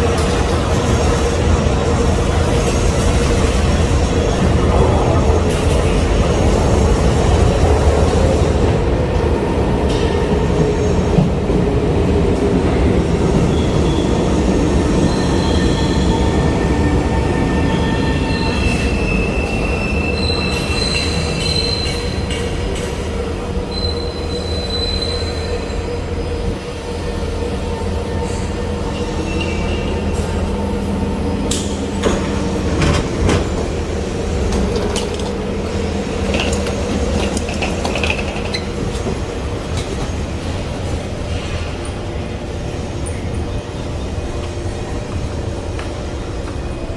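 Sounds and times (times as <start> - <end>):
train rumbling on track: 0.0 - 46.9.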